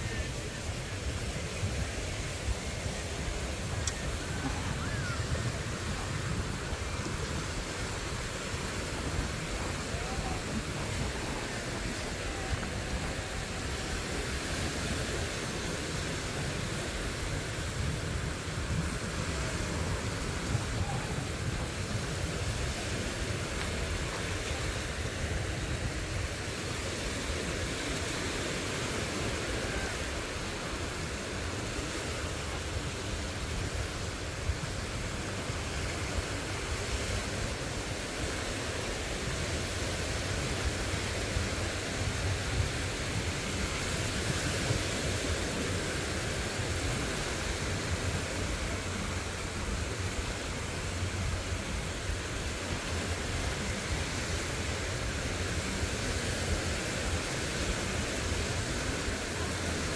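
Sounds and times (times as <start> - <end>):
small waves washing on shore: 0.0 - 59.9
wind rumbling on microphone: 0.0 - 59.9.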